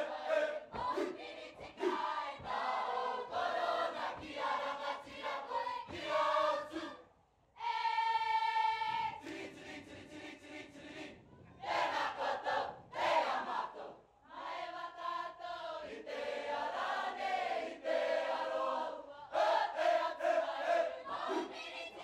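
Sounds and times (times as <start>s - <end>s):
choir singing in parts: 0.0s - 22.0s.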